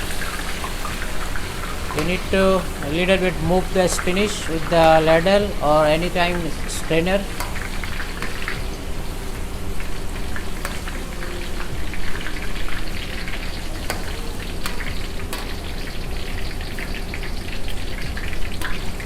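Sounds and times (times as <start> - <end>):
spinach sizzling in hot oil: 0.0 - 19.0.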